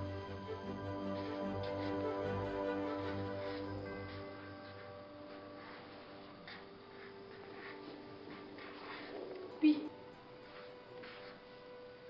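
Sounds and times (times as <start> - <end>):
music of sustained notes: 0.0 - 12.0.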